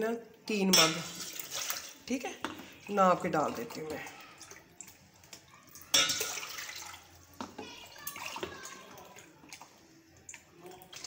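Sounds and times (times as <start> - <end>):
water pouring into a steel pot: 0.9 - 2.1, 2.8 - 11.0.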